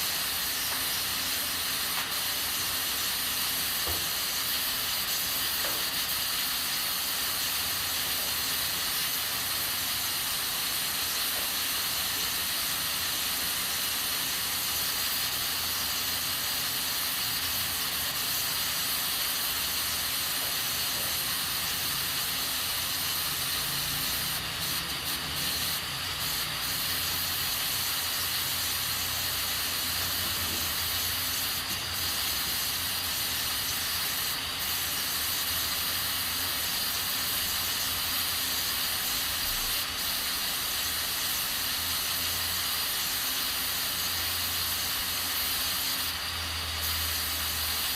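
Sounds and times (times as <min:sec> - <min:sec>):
pressure cooker steam hissing: 0:00.0 - 0:47.9.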